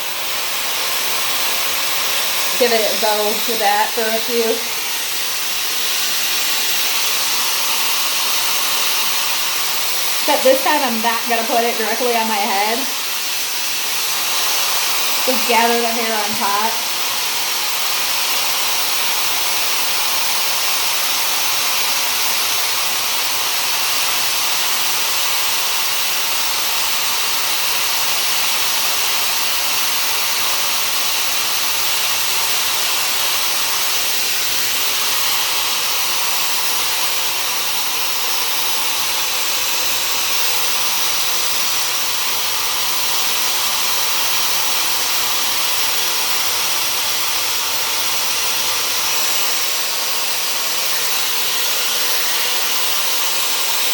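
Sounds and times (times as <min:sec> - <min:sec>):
hair dryer blowing air: 0:00.0 - 0:53.9.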